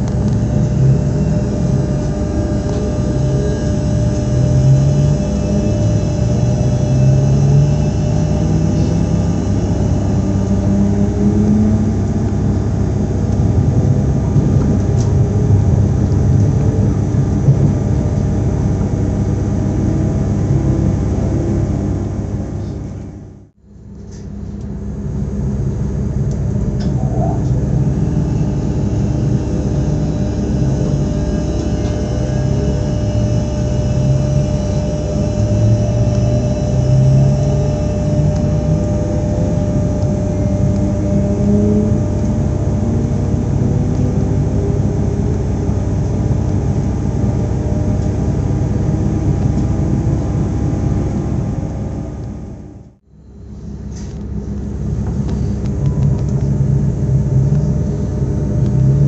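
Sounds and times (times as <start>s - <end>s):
train rumble: 0.0s - 52.8s
electric train motor humming: 0.0s - 59.0s.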